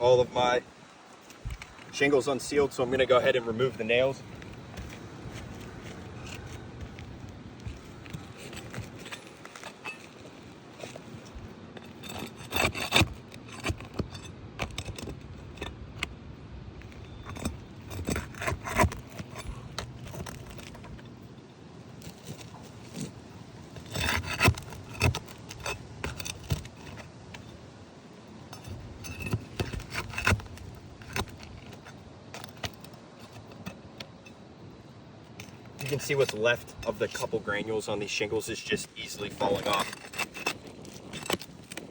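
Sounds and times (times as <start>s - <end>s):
tool scraping shingles: 1.3s - 16.1s, 16.8s - 21.3s, 21.9s - 27.7s, 28.4s - 34.4s, 35.3s - 41.9s.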